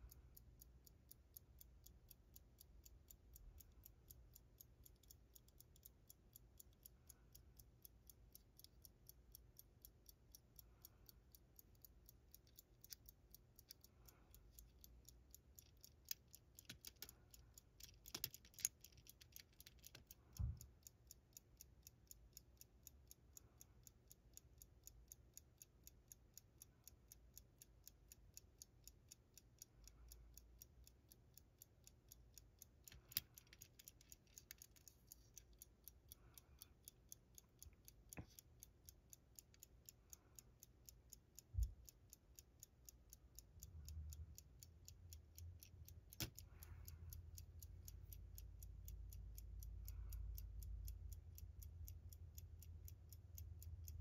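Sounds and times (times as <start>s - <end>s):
pocket watch ticking: 0.0s - 54.0s.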